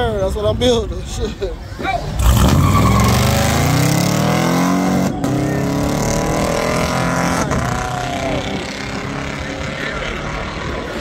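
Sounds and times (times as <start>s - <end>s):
car engine at full throttle: 2.2s - 11.0s.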